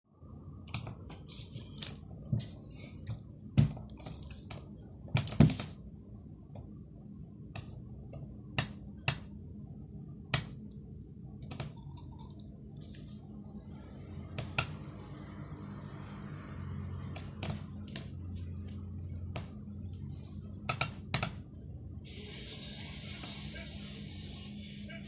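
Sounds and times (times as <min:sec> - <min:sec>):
steady low hum: 0:00.1 - 0:25.0.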